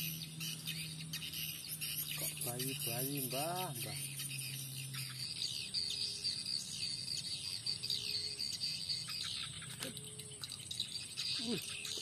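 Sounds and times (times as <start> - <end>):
falling bird calls: 0.0 - 12.0
insect chorus: 0.0 - 12.0.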